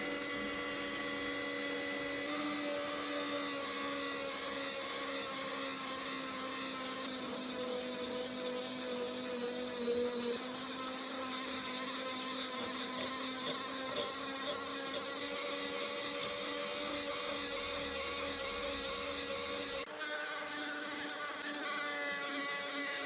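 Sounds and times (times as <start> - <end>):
power tool motor whining: 0.0 - 23.0.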